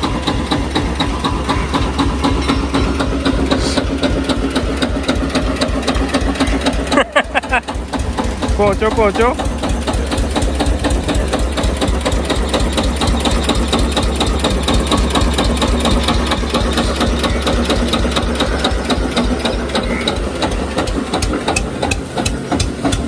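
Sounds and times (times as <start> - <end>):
diesel tractor engine clattering: 0.0 - 23.0.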